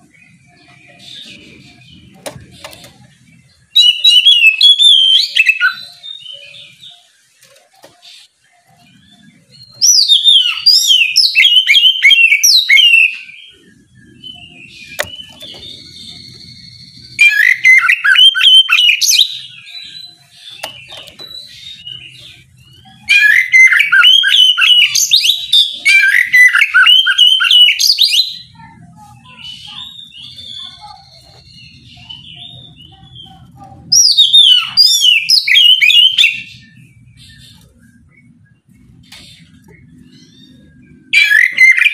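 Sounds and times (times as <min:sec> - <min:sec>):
bird singing whistled notes: 0:03.6 - 0:07.2, 0:08.0 - 0:28.6, 0:29.4 - 0:38.8, 0:39.4 - 0:41.9.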